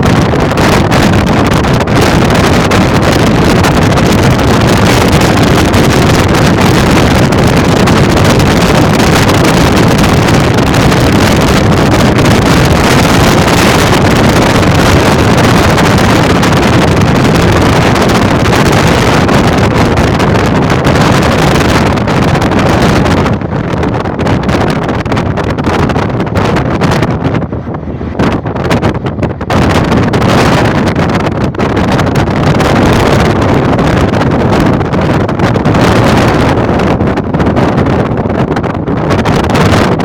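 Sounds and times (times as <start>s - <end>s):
wind blasting microphone: 0.0s - 40.0s.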